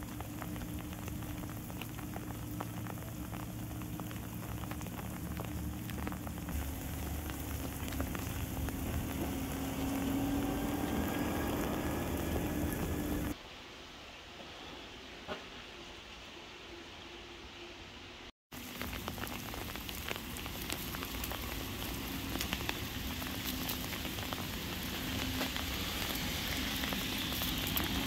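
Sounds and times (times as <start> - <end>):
freezing rain ticking on icy surfaces: 0.0 - 13.4, 18.5 - 28.0.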